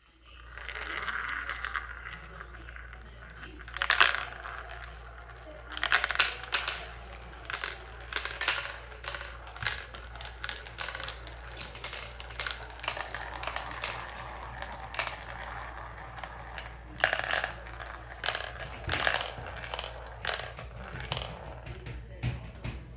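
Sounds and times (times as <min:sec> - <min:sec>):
marbles clattering down marble run: 0:00.2 - 0:22.9.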